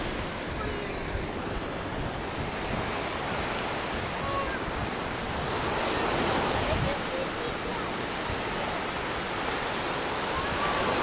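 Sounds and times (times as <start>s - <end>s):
waves washing up a beach: 0.0s - 11.0s.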